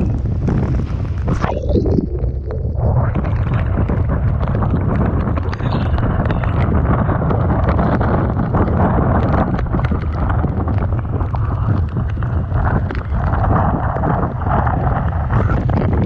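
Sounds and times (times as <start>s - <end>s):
rough sea churning: 0.0s - 16.0s
short crackles: 0.0s - 16.0s
wind buffeting microphone: 0.0s - 16.0s.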